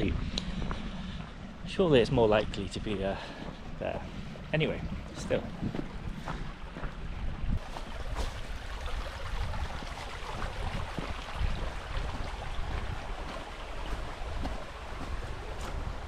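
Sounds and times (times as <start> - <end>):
wind buffeting microphone: 0.0 - 16.0
stream rushing: 2.9 - 16.0.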